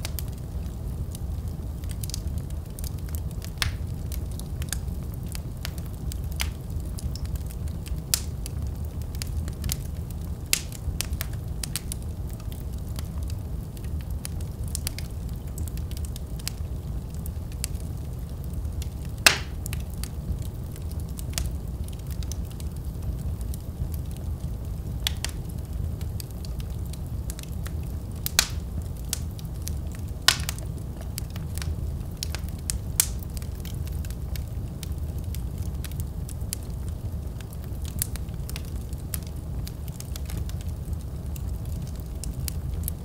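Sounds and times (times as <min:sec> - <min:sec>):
fireplace fire crackling: 0:00.0 - 0:43.0.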